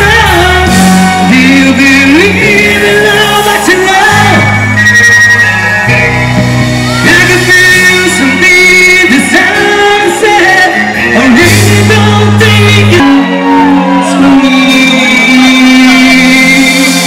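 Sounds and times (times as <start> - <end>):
bass and keyboard notes: 0.0 - 17.0
drums: 0.0 - 17.0
singer vocals: 0.0 - 17.0.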